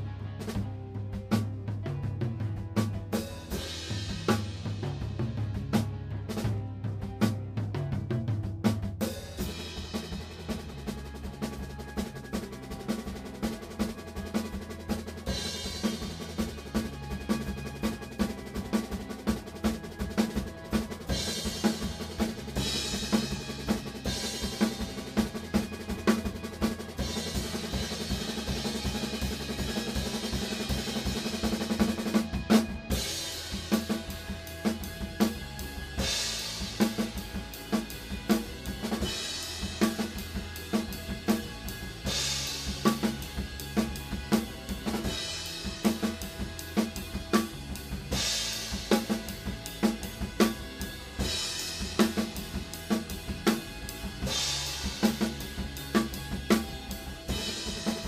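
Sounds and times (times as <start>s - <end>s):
rock drum kit: 0.0s - 58.0s.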